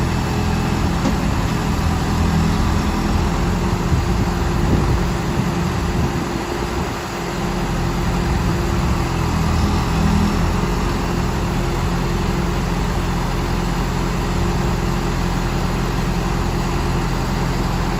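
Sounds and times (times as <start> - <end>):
backhoe engine running: 0.0 - 17.9.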